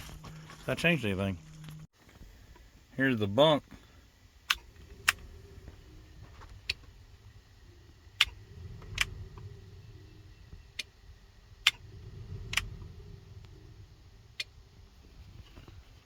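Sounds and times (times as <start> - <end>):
faint low rumble: 0.0 - 16.0.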